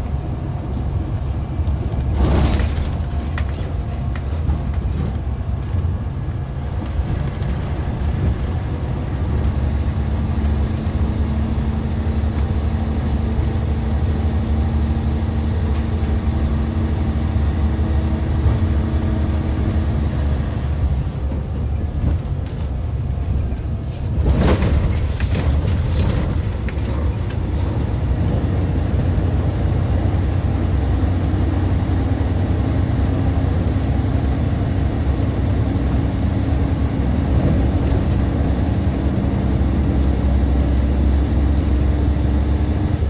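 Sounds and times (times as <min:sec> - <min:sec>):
diesel coach engine drone: 0:00.0 - 0:43.0.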